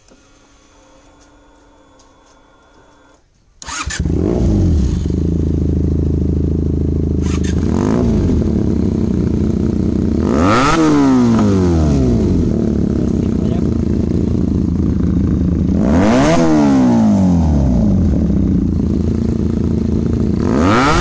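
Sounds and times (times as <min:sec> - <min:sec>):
motorcycle engine idling and revving: 0:00.7 - 0:21.0.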